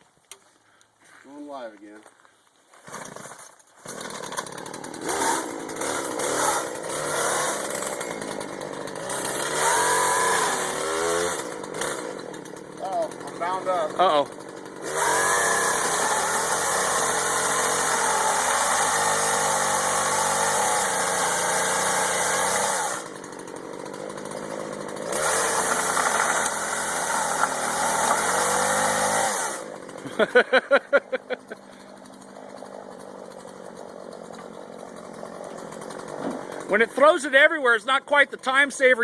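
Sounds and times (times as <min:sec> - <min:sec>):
chainsaw revving: 0:02.8 - 0:39.0.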